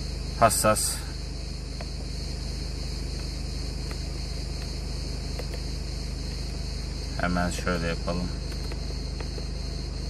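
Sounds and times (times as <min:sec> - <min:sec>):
crickets chirring: 0:00.0 - 0:10.0
van engine idling: 0:00.0 - 0:10.0.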